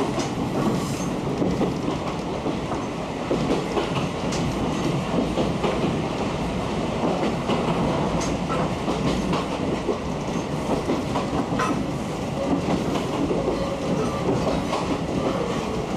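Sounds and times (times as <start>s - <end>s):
train wheels rumbling: 0.0s - 15.9s.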